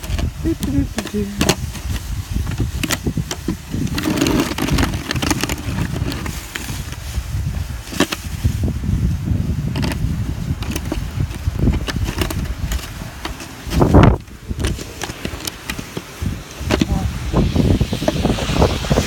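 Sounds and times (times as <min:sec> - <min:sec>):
trucks engine and road rumble: 0:00.0 - 0:19.0.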